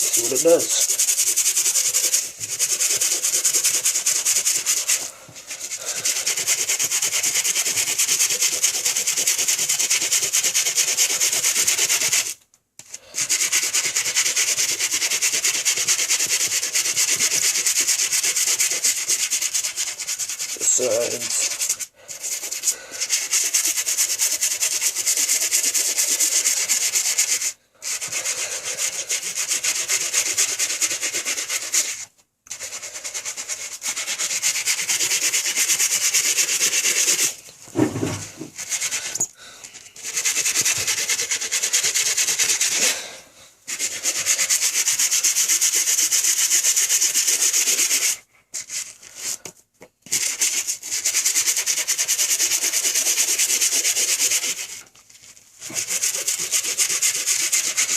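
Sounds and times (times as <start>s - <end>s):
toothbrush scrubbing rubber sole: 0.0s - 57.9s.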